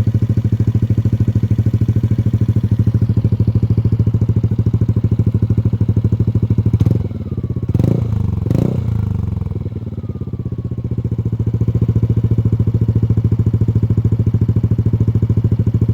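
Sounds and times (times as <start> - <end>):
scooter engine revving and idling: 0.0 - 15.9.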